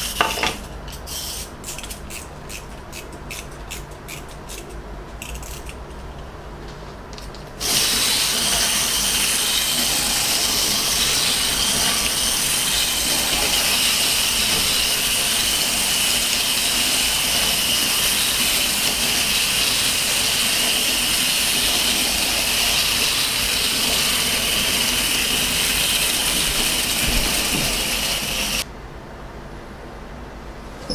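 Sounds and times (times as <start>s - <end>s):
toy trains whirring: 0.0s - 5.8s, 7.6s - 28.6s.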